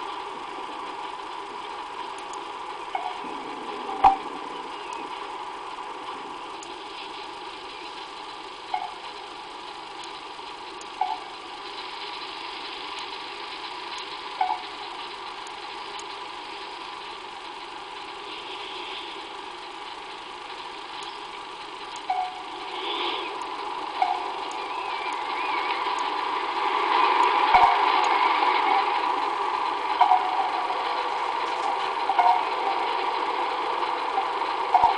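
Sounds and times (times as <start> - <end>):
steady background hum: 0.0 - 34.9.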